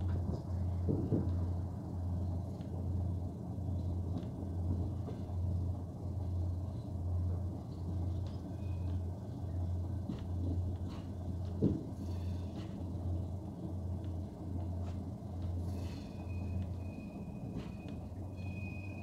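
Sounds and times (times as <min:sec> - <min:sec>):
diesel locomotive engine drone: 0:00.0 - 0:19.0
train rolling rumble: 0:00.0 - 0:19.0.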